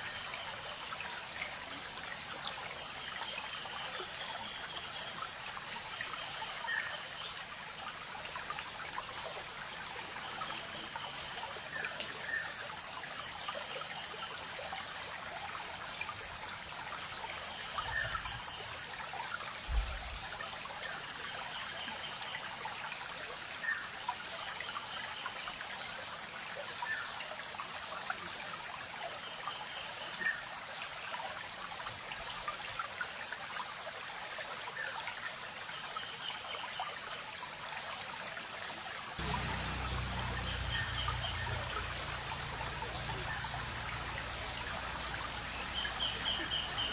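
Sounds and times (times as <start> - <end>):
stream trickling and babbling: 0.0 - 46.9.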